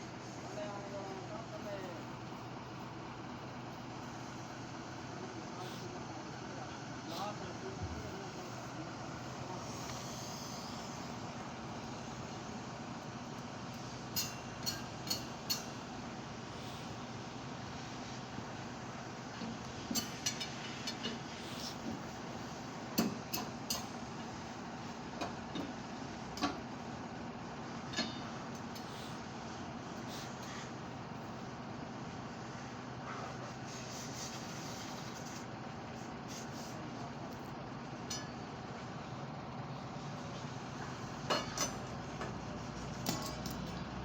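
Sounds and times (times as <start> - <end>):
steady background noise: 0.0 - 44.0.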